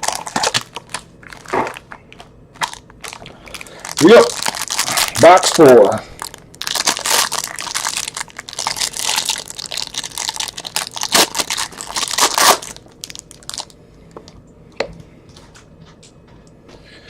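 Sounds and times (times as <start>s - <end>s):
plastic wrapping tearing and crinkling: 0.0s - 13.8s.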